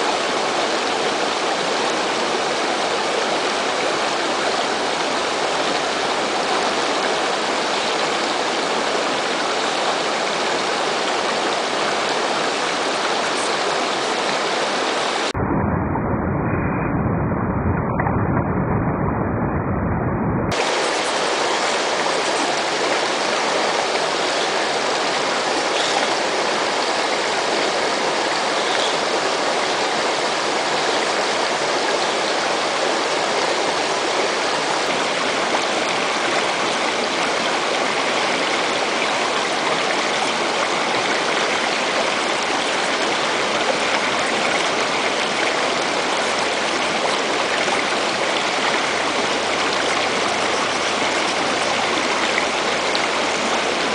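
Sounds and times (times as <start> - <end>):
river flowing over rocks: 0.0 - 15.3, 20.5 - 53.9.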